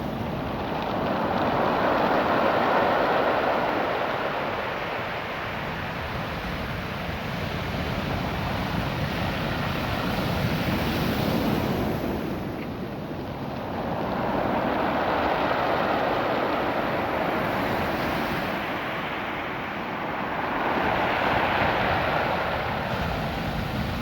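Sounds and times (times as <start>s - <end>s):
surf washing over pebbles: 0.0s - 24.0s.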